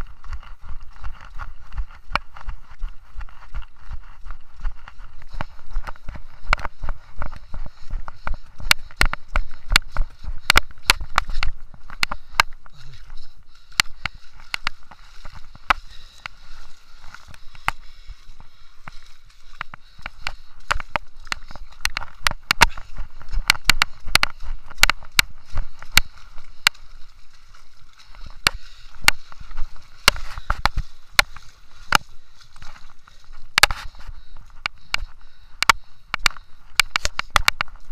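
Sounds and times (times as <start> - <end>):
footsteps on wet gravel: 0.0 - 37.9
footsteps splashing through water: 0.0 - 37.9.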